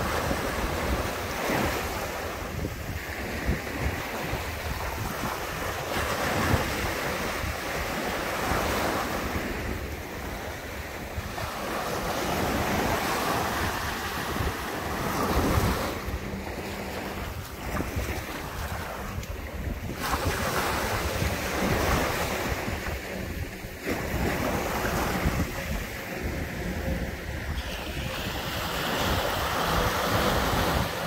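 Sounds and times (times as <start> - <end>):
waves rolling in and washing back: 0.0 - 31.0
wind rumbling on microphone: 0.0 - 31.0.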